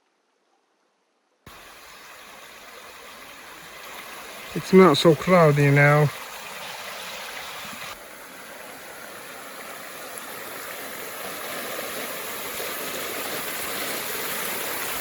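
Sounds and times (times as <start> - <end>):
river water rushing: 1.5 - 15.0.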